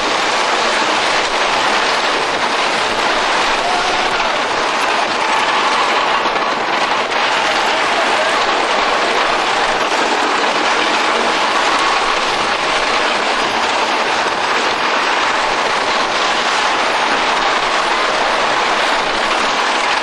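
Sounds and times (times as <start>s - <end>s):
roller coaster wheels rumbling: 0.0s - 20.0s.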